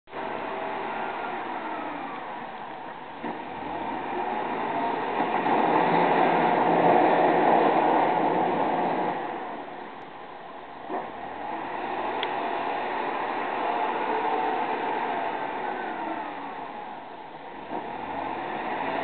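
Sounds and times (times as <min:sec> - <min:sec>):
diesel engine under load: 0:00.1 - 0:19.0.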